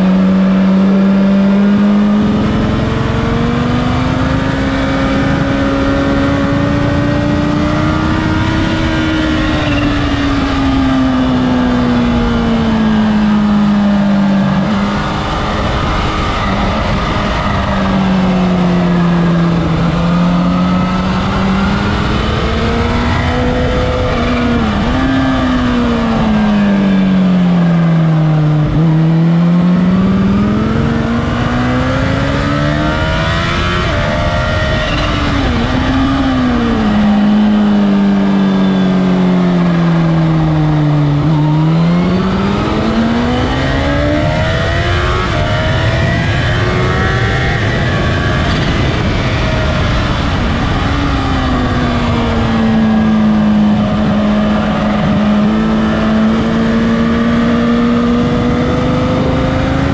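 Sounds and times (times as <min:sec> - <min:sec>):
motorcycle engine accelerating: 0:00.0 - 0:59.9
wind rush: 0:01.5 - 0:59.9.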